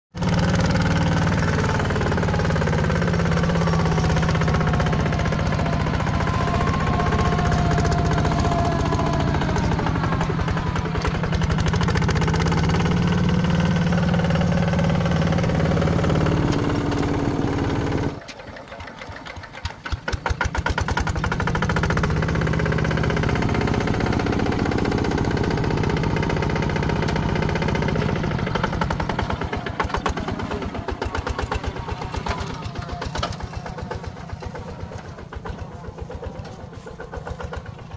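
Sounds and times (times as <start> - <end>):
diesel engine droning: 0.1 - 37.9.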